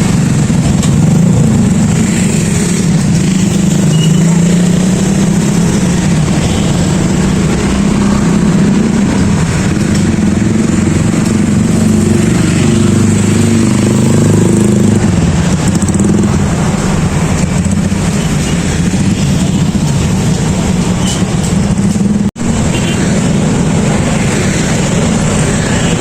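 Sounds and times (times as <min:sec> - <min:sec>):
motorcycle engine running: 0:00.0 - 0:26.0
street traffic: 0:00.0 - 0:26.0.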